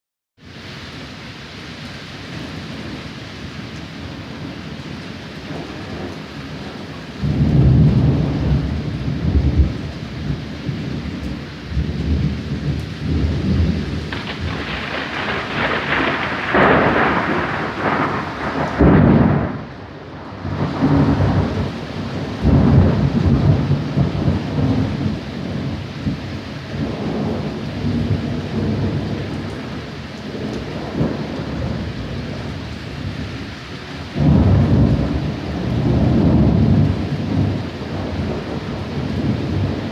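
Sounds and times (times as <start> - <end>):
steady rain: 0.4 - 39.9
thunder rumbling: 4.0 - 39.9.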